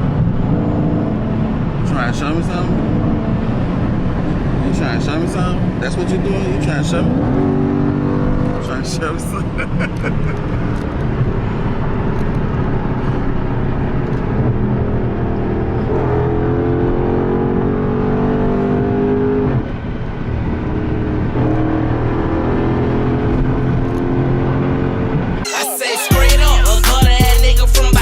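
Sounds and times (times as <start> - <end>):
car engine accelerating hard: 0.0 - 25.4.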